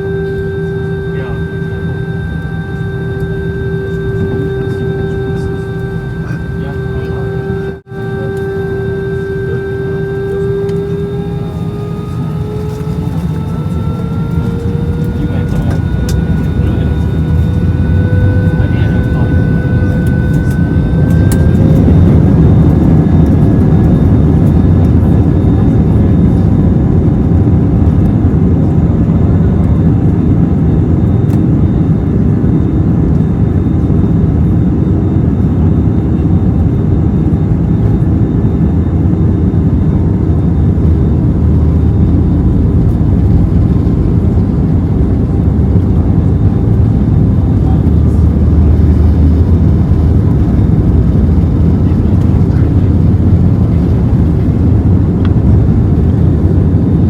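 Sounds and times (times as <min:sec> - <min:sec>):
jet engines spooling up: 0:00.0 - 0:57.0
loud steady jet rumble: 0:00.0 - 0:57.0.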